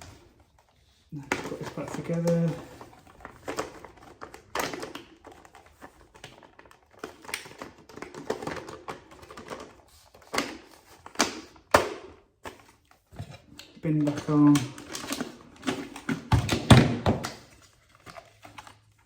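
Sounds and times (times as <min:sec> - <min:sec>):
plastic parts clicking and knocking: 0:00.0 - 0:18.9.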